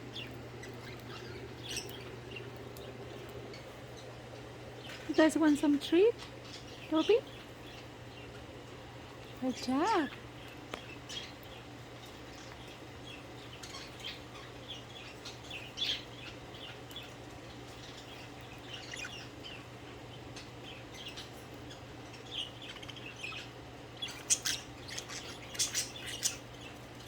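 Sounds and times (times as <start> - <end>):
faint steady hum: 0.0 - 27.0
budgerigars chirping: 0.1 - 4.2, 4.8 - 8.5, 9.3 - 10.2, 10.8 - 26.8.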